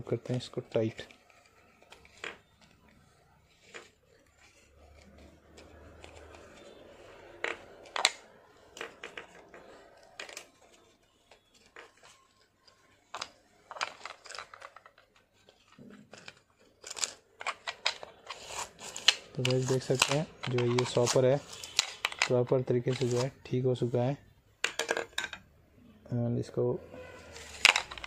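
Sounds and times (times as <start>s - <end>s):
plastic clicks and scrapes: 0.3s - 23.4s, 27.2s - 28.0s.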